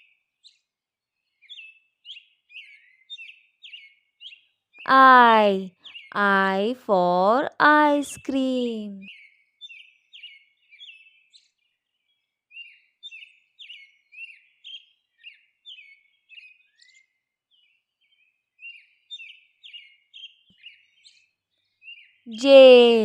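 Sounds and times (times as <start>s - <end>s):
small birds chirping: 0.0s - 4.8s, 8.4s - 23.0s.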